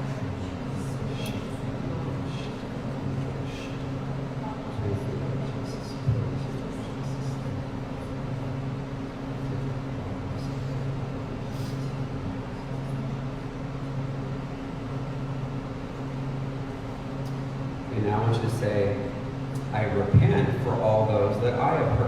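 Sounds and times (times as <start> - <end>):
pulsing low hum: 0.0 - 22.0.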